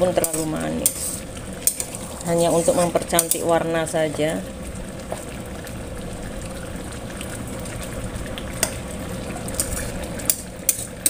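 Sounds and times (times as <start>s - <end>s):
sauce bubbling in a wok: 0.0s - 11.0s.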